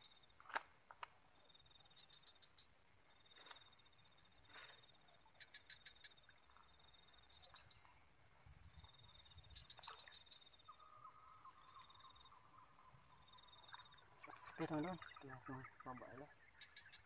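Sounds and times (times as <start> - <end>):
insect high buzz: 0.0 - 17.0
insect high trill: 0.0 - 17.0
lower insect tone: 0.0 - 17.0.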